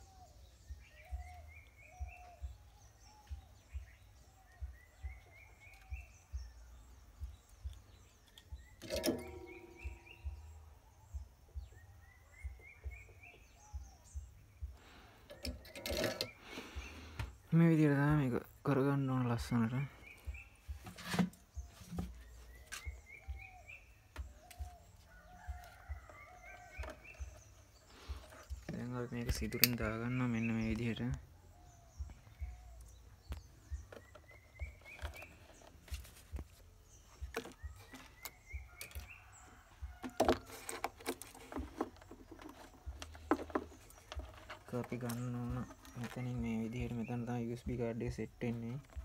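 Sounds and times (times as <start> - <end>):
bird calls: 0.0 - 49.0.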